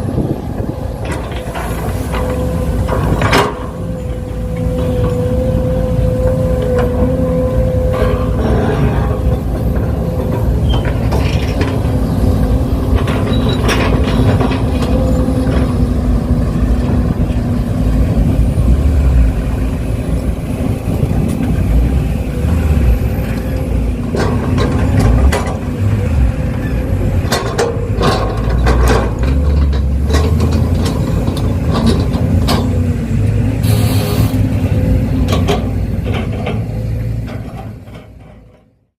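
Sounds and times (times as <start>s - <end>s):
excavator engine and hydraulic drone: 0.0s - 38.9s.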